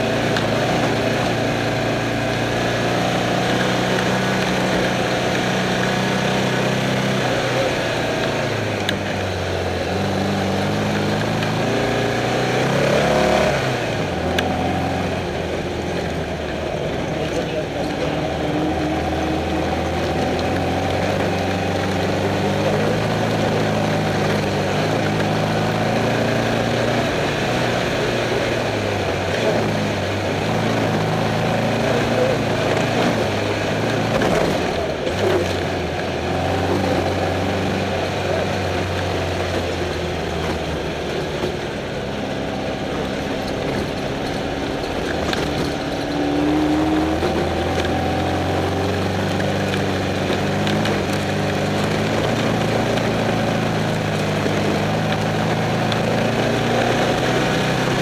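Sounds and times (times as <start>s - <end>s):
race car engine revving: 0.0s - 58.0s
rattle and road noise: 0.0s - 58.0s.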